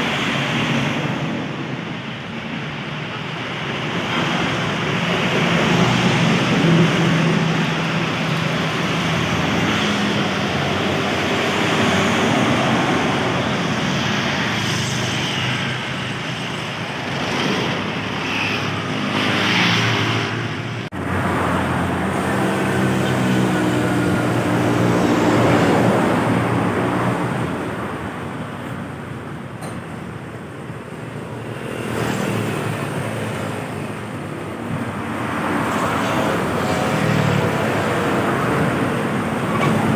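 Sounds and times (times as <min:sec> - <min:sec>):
trucks and buses driving past: 0:00.0 - 0:39.9.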